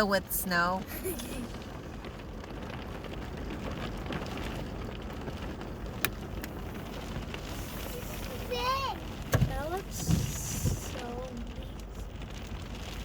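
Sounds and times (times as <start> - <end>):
hail pellets pattering: 0.0 - 13.0.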